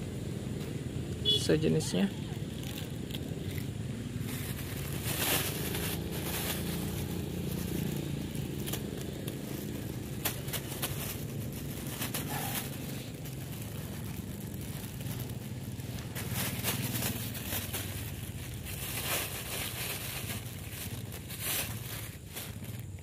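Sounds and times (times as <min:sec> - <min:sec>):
plastic bag crinkling: 0:02.3 - 0:23.0.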